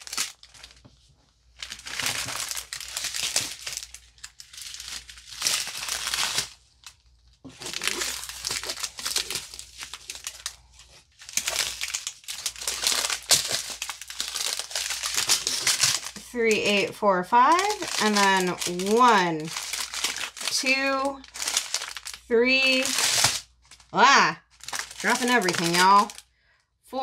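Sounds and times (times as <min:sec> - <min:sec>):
plastic bags crinkling: 0:00.0 - 0:26.3.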